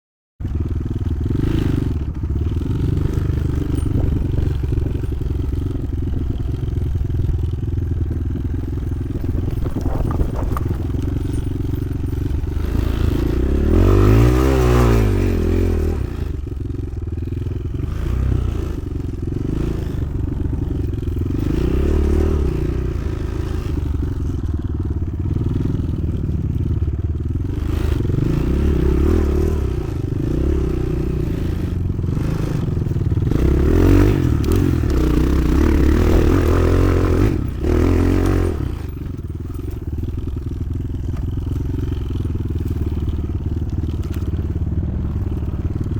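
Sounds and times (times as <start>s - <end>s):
motorcycle engine revving: 0.4s - 45.9s.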